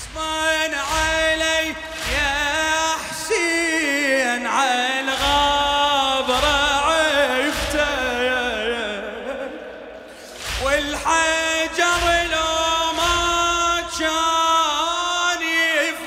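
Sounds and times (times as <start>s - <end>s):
man singing a lament: 0.0s - 16.0s
rhythmic chest-beating: 0.0s - 16.0s.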